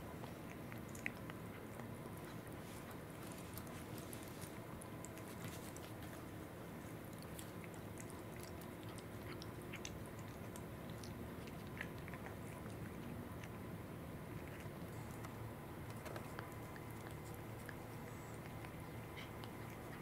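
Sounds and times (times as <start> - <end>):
cat crunching treats: 0.0 - 20.0.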